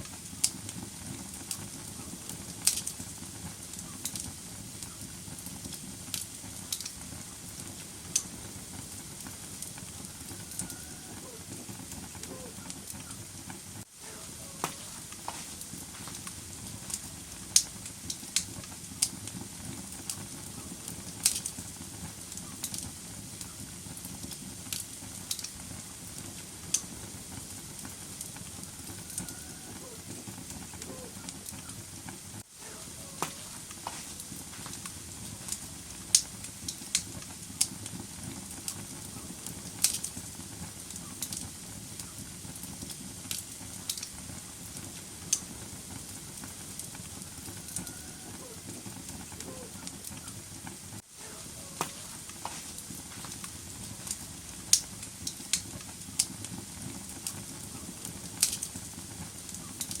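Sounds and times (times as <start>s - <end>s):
wood fire crackling: 0.0s - 60.0s.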